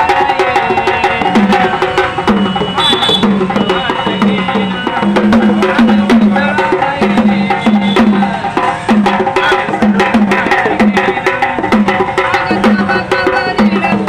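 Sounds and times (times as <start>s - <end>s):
fast low drumming: 0.0s - 14.0s
sharp clacking percussion: 0.0s - 14.0s.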